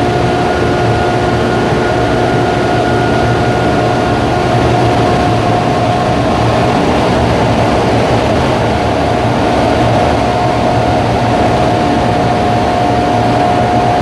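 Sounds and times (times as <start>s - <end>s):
low hum: 0.0s - 14.0s
machine whine: 0.0s - 14.0s
rush of air from blowers: 0.0s - 14.0s.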